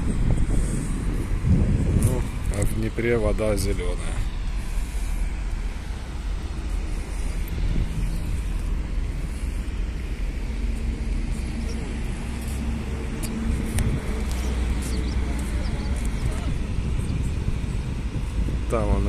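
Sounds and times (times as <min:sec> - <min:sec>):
faint engine hum: 0:00.0 - 0:19.0
traffic noise: 0:00.0 - 0:19.0
wind rumble on microphone: 0:00.0 - 0:19.0.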